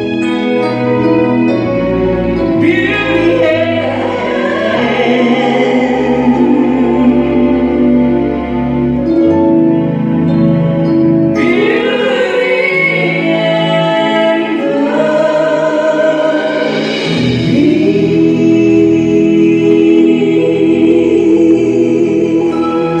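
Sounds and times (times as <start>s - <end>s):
man and woman singing duet: 2.0s - 8.8s, 11.4s - 23.0s.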